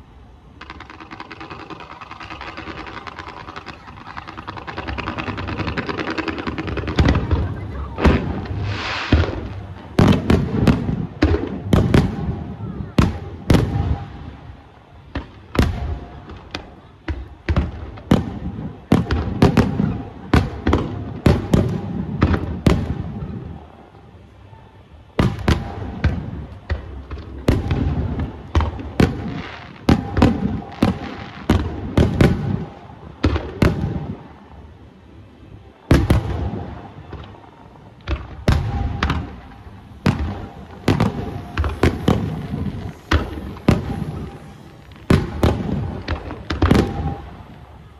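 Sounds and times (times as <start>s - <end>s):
fireworks bursting with sharp bangs: 0.0s - 47.9s.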